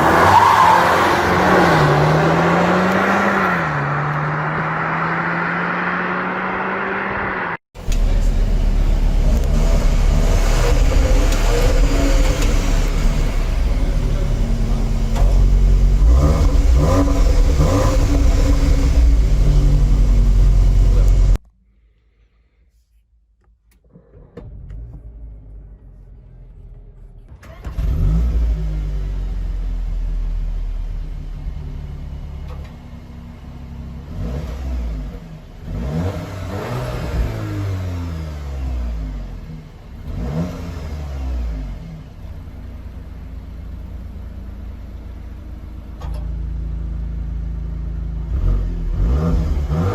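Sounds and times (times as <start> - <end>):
car engine revving: 0.0 - 21.4, 23.9 - 32.6, 33.7 - 42.4, 47.8 - 49.9.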